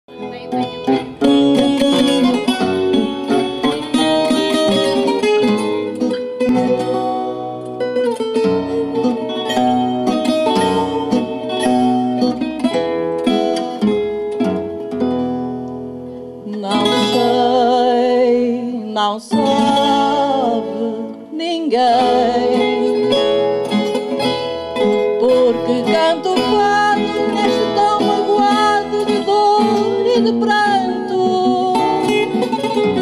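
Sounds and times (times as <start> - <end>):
plucked guitars melody: 0.1 - 33.0.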